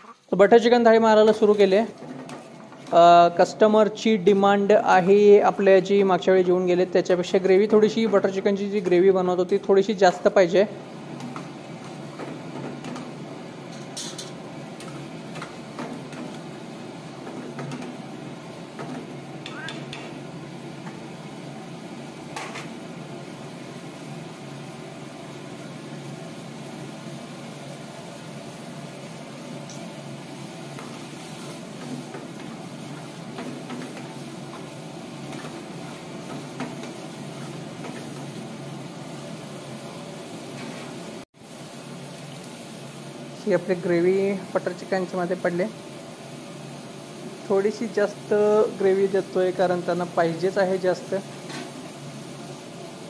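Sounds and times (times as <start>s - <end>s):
gas burner roar: 0.0s - 53.0s.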